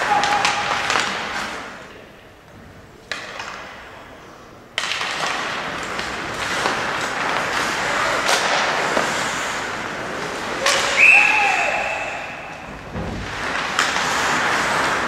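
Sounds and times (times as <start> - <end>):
skates on ice: 0.0 - 2.1, 3.0 - 15.0
hockey sticks and puck clacking: 0.0 - 15.0.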